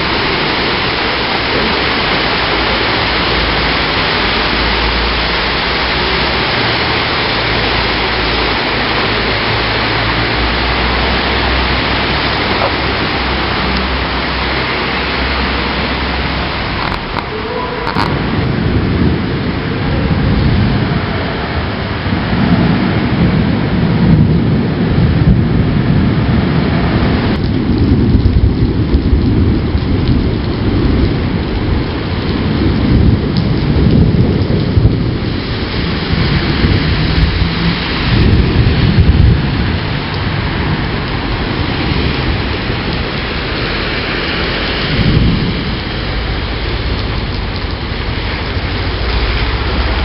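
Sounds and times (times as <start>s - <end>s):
heavy rain pouring: 0.0s - 50.0s
thunder rumbling: 0.0s - 50.0s.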